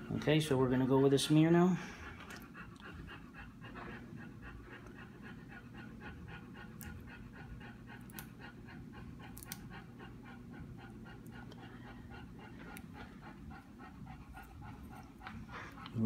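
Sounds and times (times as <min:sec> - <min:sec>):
dog panting rapidly: 0:00.0 - 0:16.0.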